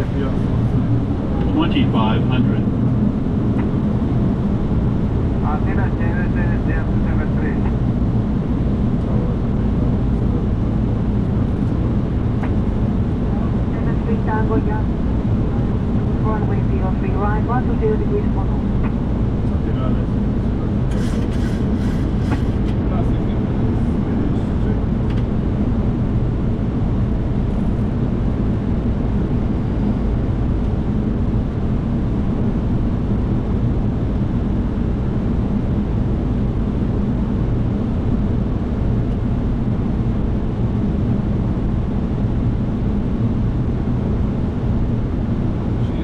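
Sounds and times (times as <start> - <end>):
airflow and engine rush in cockpit: 0.0 - 46.0.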